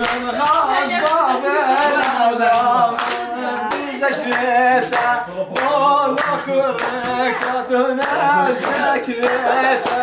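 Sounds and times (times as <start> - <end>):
people singing together: 0.0 - 10.0
rhythmic hand clapping: 0.0 - 10.0.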